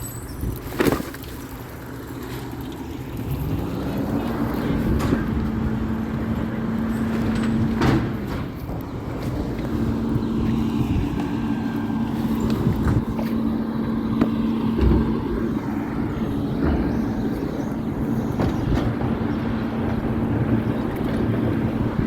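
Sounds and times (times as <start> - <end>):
garbage truck engine humming: 0.0 - 22.0.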